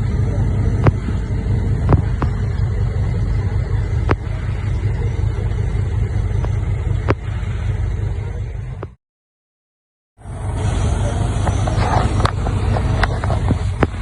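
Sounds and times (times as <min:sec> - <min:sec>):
heavy diesel engine rumbling: 0:00.0 - 0:09.0, 0:10.2 - 0:14.0.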